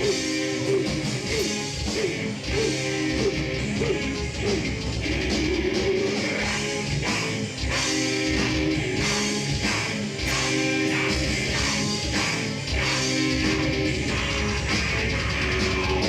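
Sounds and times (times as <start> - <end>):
distorted electric guitars: 0.0 - 16.0
drum kit beat: 0.0 - 16.0.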